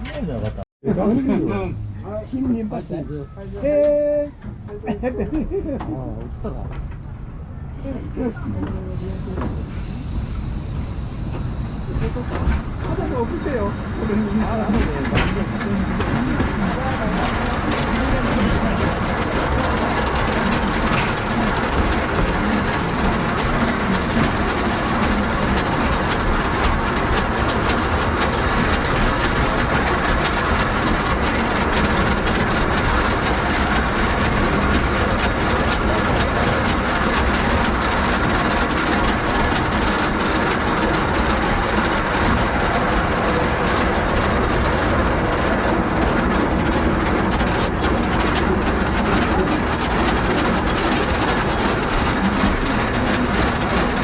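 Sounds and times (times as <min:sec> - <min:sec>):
train wheels rumbling on rails: 0:00.0 - 0:54.0
clatter over the track: 0:08.3 - 0:54.0.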